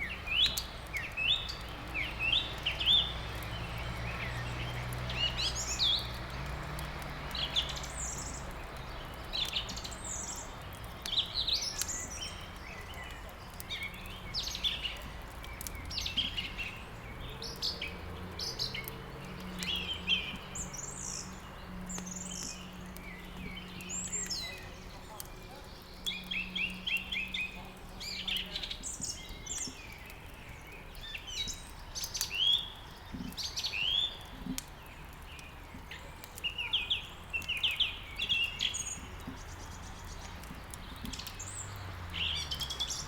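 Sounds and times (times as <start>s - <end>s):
songbirds chirping and trilling: 0.0s - 43.0s
wood fire crackling: 0.0s - 43.0s.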